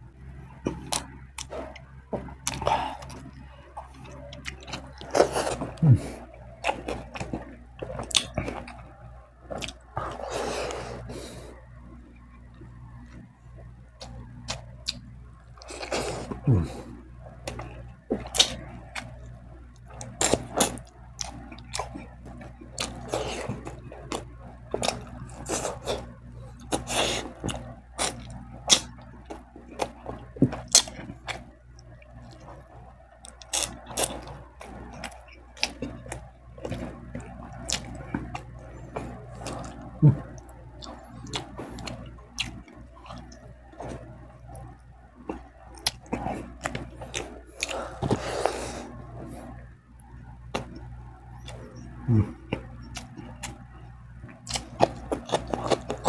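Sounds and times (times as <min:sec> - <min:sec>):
person chewing and lip smacking: 0:00.7 - 0:10.8, 0:14.0 - 0:56.0.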